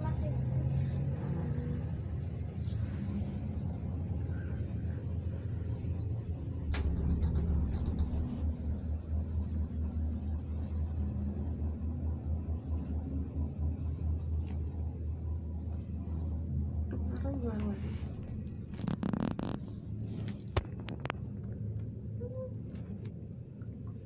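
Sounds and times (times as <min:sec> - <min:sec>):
gondola cabin rumble: 0:00.0 - 0:24.0.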